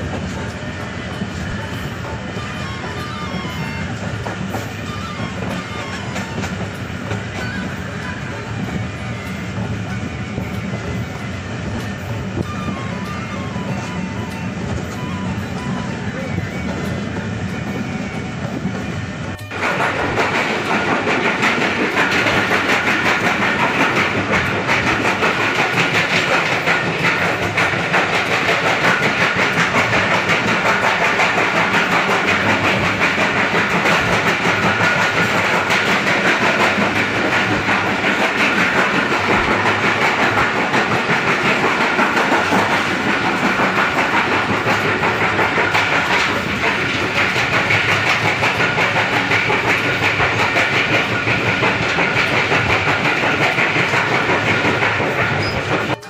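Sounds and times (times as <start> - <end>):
train wheels rattling on track: 0.0 - 56.0.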